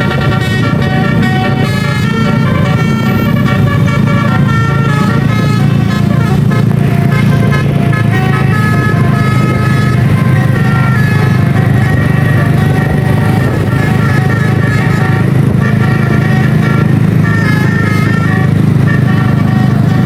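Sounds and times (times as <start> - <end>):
multi-tone musical horn playing: 0.0 - 20.0
vehicle engine humming: 0.0 - 20.0.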